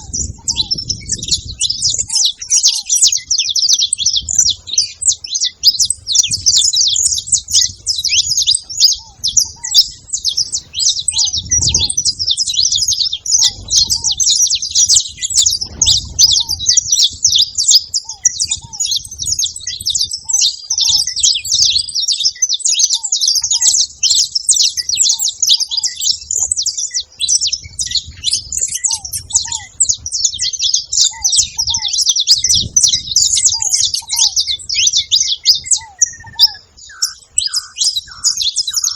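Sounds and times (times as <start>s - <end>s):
finch chirping and singing: 0.0s - 38.9s.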